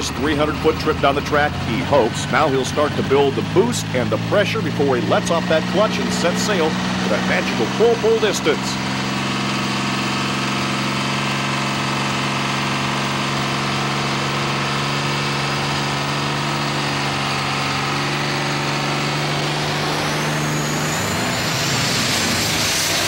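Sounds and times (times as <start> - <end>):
diesel engine at high revs: 0.0 - 23.0.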